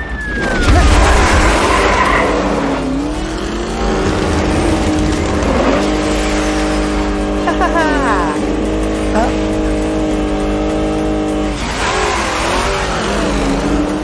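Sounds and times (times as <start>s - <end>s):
animated vehicle engine running: 0.0s - 14.0s
tyres skidding: 0.0s - 14.0s.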